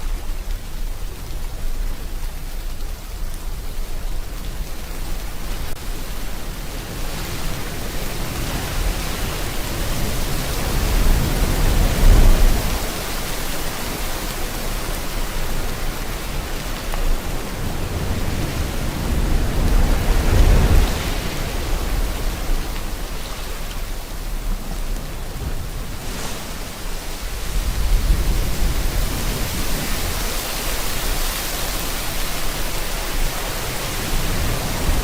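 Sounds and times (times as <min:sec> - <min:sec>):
rain hiss: 0:00.0 - 0:35.0
ocean waves breaking: 0:05.8 - 0:35.0.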